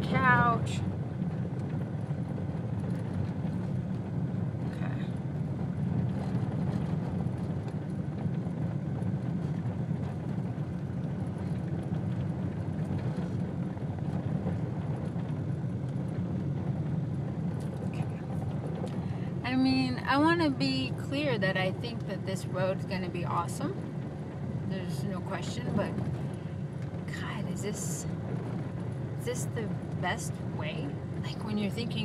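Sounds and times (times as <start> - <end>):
vehicle engines rumbling: 0.0 - 32.0.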